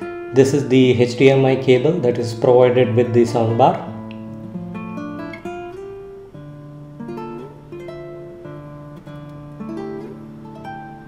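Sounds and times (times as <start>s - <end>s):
acoustic guitar plucked melody: 0.0s - 11.0s.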